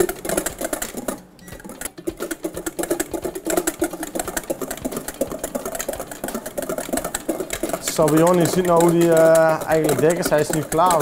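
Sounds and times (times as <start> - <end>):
whisk beating in metal bowl: 0.0 - 11.0.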